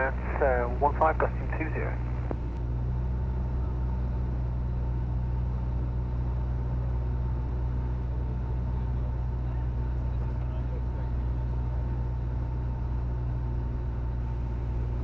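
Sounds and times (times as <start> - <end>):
airplane engine drone in cabin: 0.0 - 15.0.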